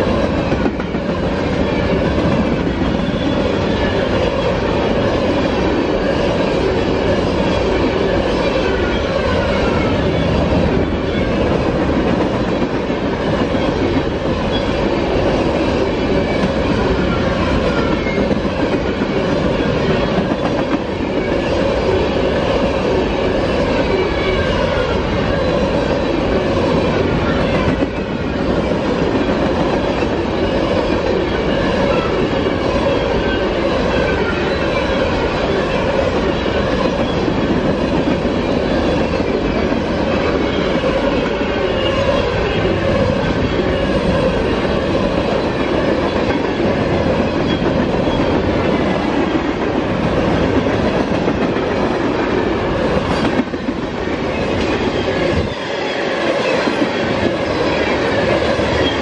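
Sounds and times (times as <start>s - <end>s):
steel wheels running on rails: 0.0s - 59.0s.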